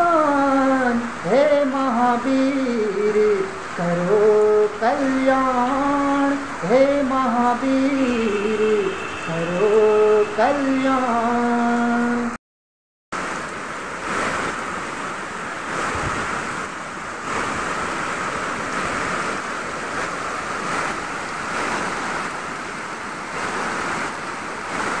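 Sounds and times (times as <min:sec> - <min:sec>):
stream rushing through stone channel: 0:00.0 - 0:12.2, 0:13.2 - 0:25.0.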